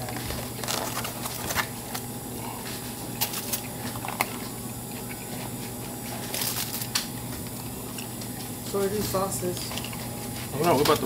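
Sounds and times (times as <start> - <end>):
foil and container crinkling: 0.0 - 11.0
steady low hum: 0.0 - 11.0.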